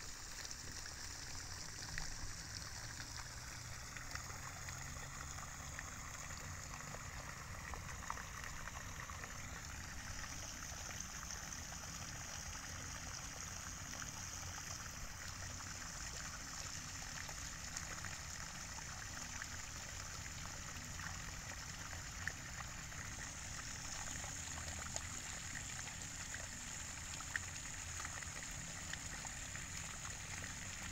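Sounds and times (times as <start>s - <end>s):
water pouring from a pipe: 0.0s - 30.9s.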